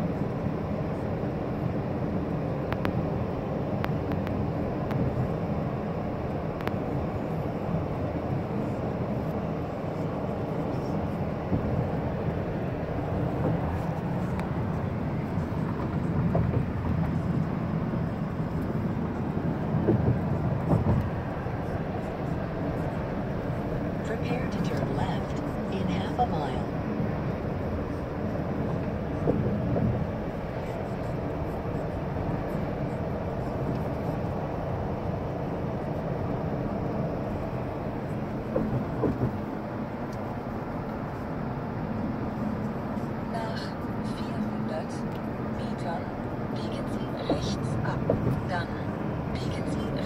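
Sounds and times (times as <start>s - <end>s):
car road and engine noise: 0.0s - 50.0s.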